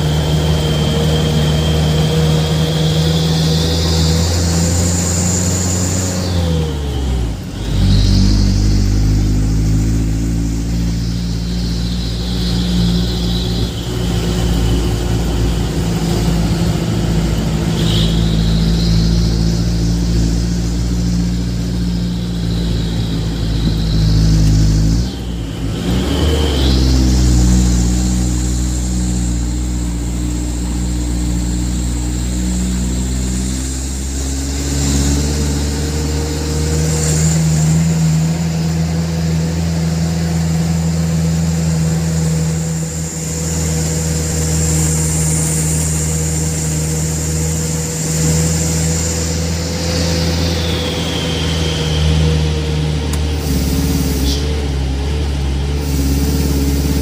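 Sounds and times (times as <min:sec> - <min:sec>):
truck engine droning: 0:00.0 - 0:57.0.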